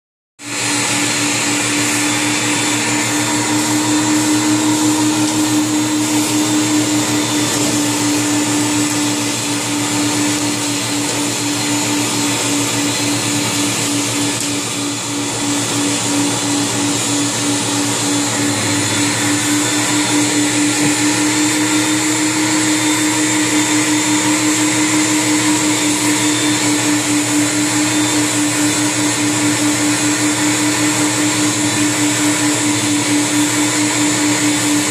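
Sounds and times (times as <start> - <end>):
carpet extractor vacuum running: 0.4 - 34.9.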